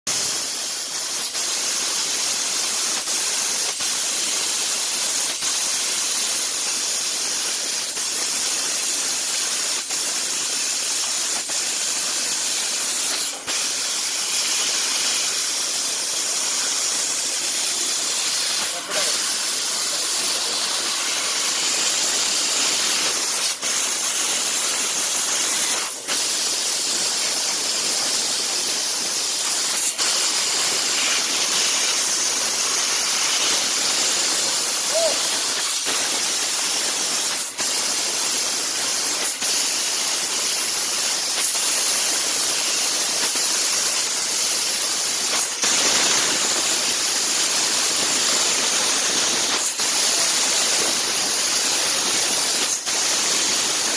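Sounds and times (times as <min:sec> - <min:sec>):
laser cutter gas hissing: 0:00.1 - 0:53.9.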